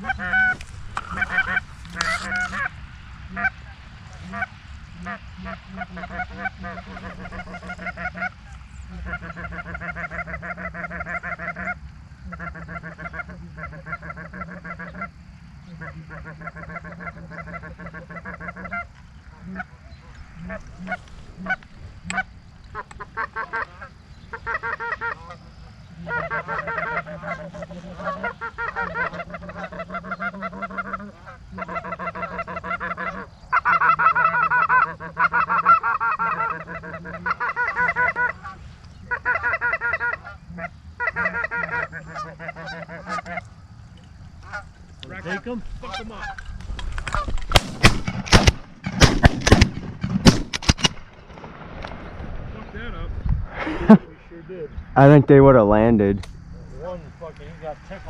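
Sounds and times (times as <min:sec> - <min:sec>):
goose honking: 0:00.0 - 0:43.6, 0:44.4 - 0:47.4.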